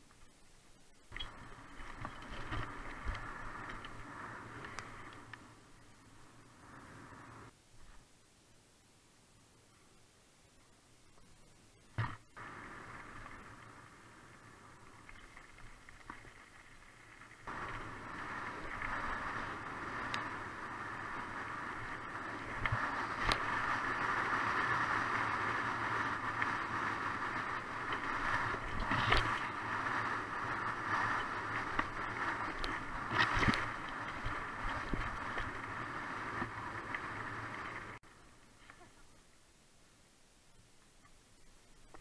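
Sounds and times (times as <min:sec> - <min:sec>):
bike trail rumble: 0:00.0 - 0:08.2, 0:10.6 - 0:42.0.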